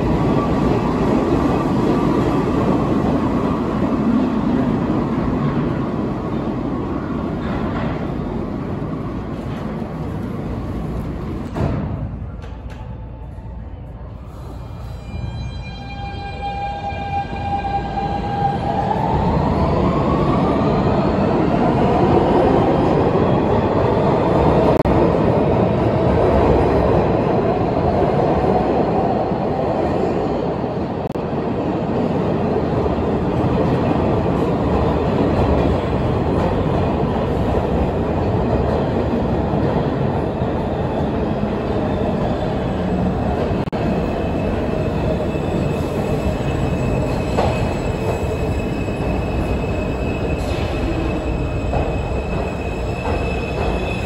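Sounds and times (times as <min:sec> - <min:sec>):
subway train rumbling on rails: 0:00.0 - 0:54.0.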